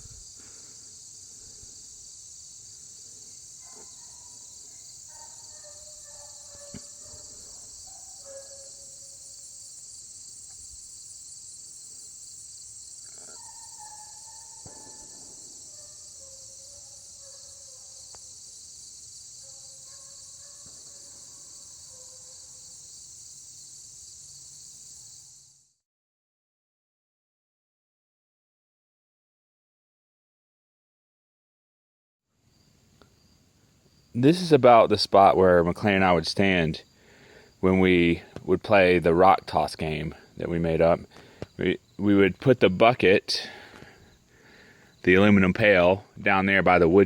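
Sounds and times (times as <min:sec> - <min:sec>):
crickets and insects chorus: 0:00.0 - 0:25.8, 0:32.4 - 0:47.0.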